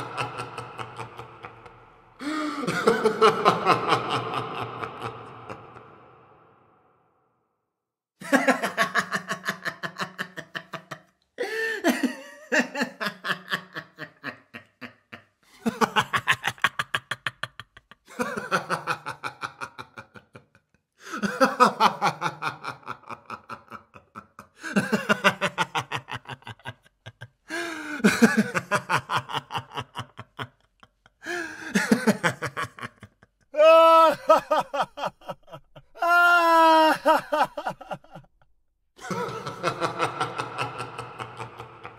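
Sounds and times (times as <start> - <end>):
man laughing: 0.0 - 6.5, 8.2 - 38.3, 39.0 - 41.9.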